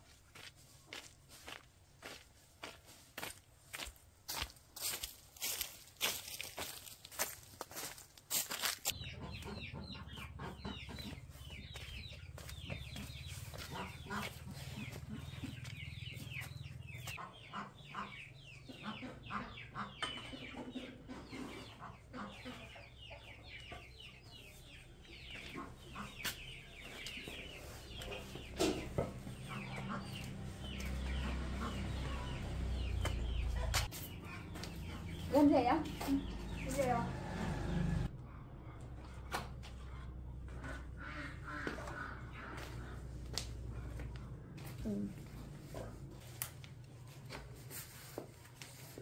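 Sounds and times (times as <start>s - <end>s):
chickens clucking: 5.4s - 44.7s.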